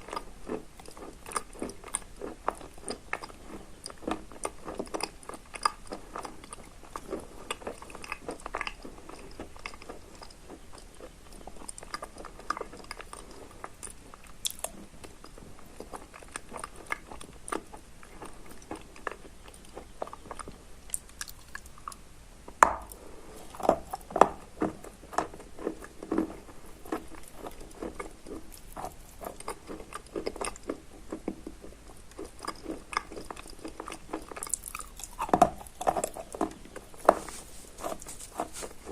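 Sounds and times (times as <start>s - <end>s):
person crunching and chewing chalk: 0.0s - 38.9s.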